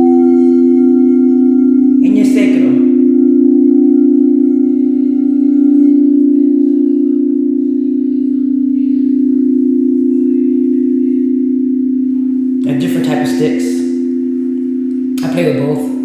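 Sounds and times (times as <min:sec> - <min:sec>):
singing bowl humming: 0:00.0 - 0:16.0.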